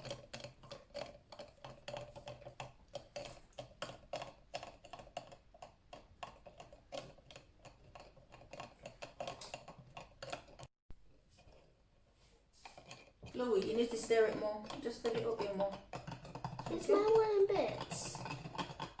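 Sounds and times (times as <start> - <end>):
utensils clicking against cups: 0.0 - 10.7, 12.6 - 19.0.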